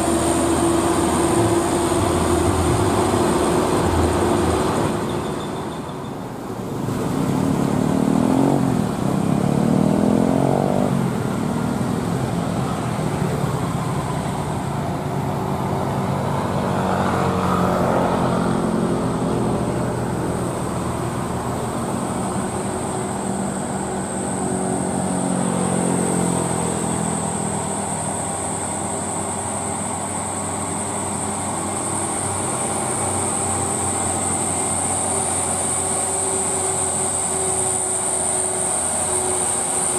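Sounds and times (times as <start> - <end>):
diesel truck engine labouring: 0.0 - 39.9.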